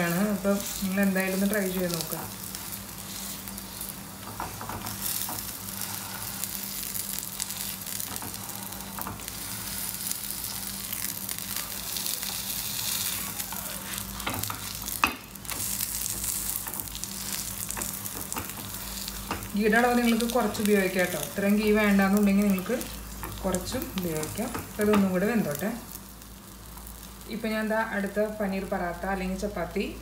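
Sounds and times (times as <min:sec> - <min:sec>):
flatbread sizzling in a pan: 0:00.0 - 0:29.0
steady low hum: 0:00.0 - 0:30.0.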